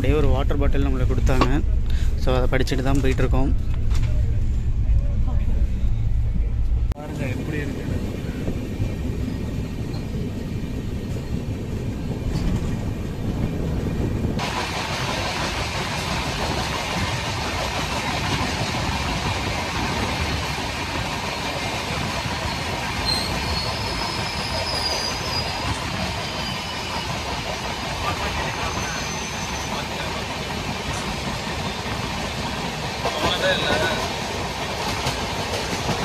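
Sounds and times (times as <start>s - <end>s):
train coach rumbling on rails: 0.0s - 36.0s.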